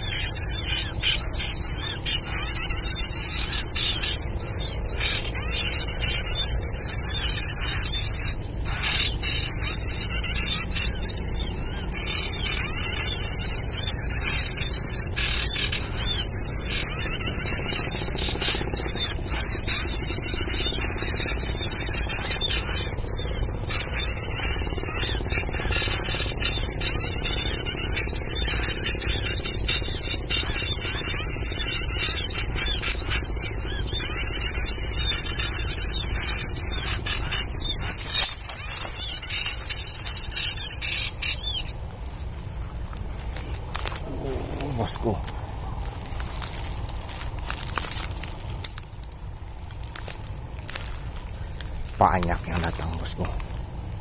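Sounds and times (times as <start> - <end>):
high-pitched bird chirps and trills: 0.0 - 54.0.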